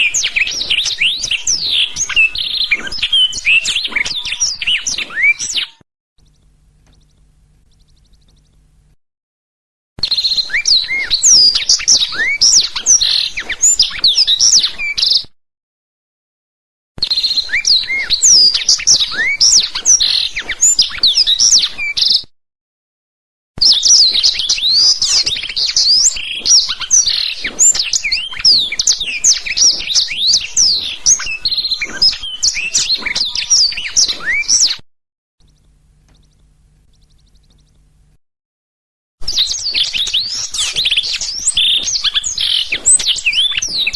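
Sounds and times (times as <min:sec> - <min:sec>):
bird singing fast chirps and trills: 0:00.0 - 0:08.9, 0:10.0 - 0:15.2, 0:17.0 - 0:22.2, 0:23.6 - 0:34.8, 0:35.4 - 0:38.1, 0:39.2 - 0:43.9.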